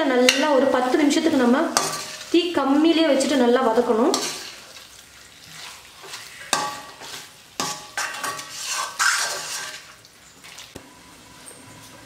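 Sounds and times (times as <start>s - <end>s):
light frying sizzle: 0.0s - 12.0s
metal spoon scraping a pan: 0.1s - 10.8s.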